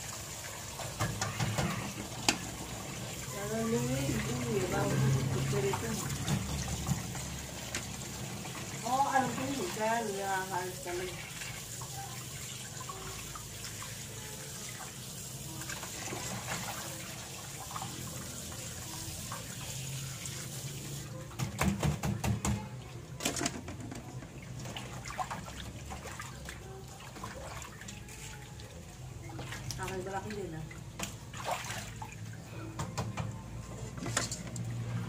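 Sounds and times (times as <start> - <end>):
tap water running into metal basin: 0.0 - 34.8.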